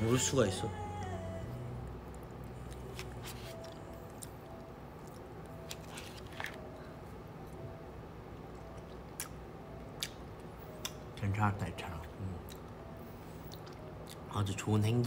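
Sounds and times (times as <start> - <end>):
soft eating sounds: 1.8 - 7.7, 8.4 - 15.0.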